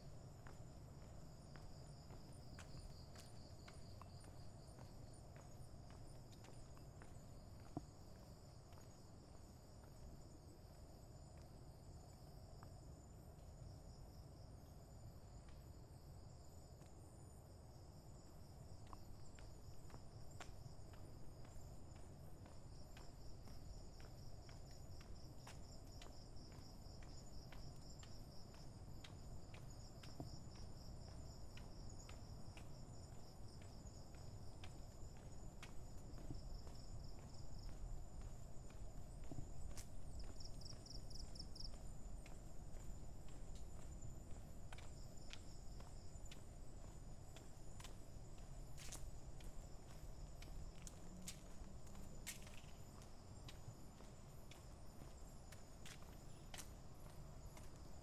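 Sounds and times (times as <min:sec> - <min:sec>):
footsteps on path: 0:00.0 - 0:58.0.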